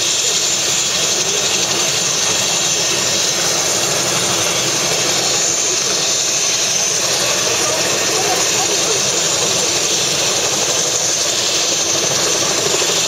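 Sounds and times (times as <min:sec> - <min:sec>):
helicopter turbine and rotor running: 0:00.0 - 0:13.0.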